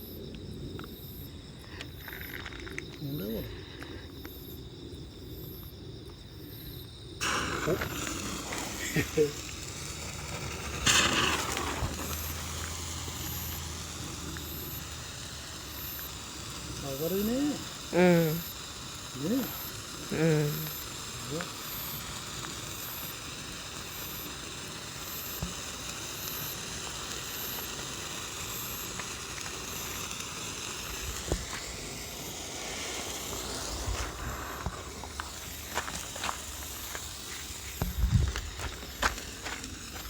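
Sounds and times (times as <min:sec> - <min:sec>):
crackles and pops: 0:00.0 - 0:40.0
firework spraying hiss: 0:00.0 - 0:40.0.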